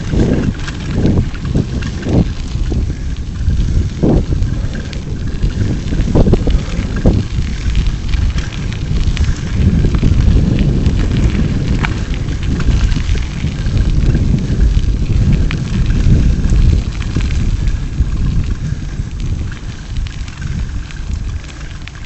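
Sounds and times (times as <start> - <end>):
tyres crunching on gravel: 0.0 - 22.0
wind buffeting microphone: 0.0 - 22.0.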